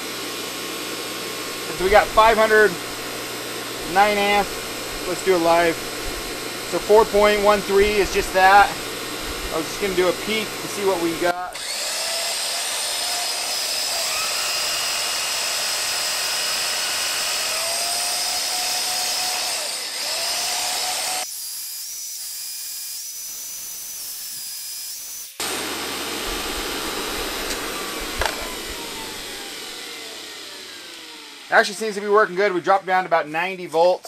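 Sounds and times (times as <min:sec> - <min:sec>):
dynamotor whining: 0:00.0 - 0:21.4, 0:25.3 - 0:32.1
power tool running: 0:00.0 - 0:32.6.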